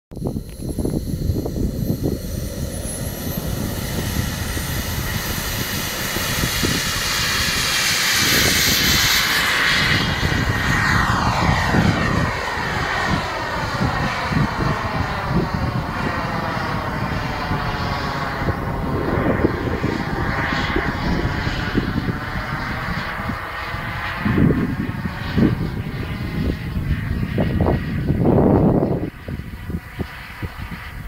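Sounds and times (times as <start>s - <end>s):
gusty low rumble: 0.1s - 31.0s
model jet whining past: 0.2s - 31.0s.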